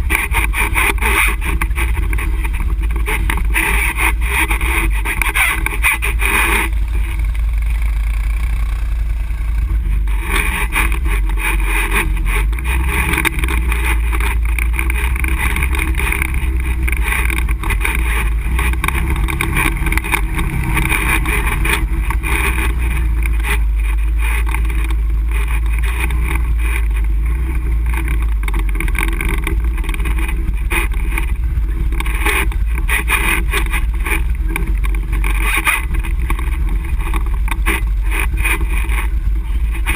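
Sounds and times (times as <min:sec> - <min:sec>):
quad engine droning: 0:00.0 - 0:39.9.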